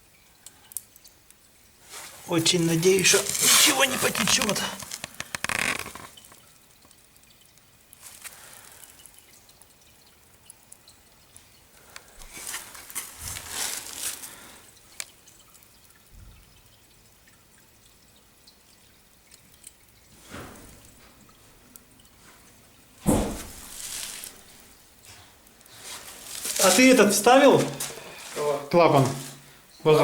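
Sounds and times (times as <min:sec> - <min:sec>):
water dripping in pipes: 0:00.0 - 0:30.0
water rushing in pipes: 0:01.8 - 0:30.0.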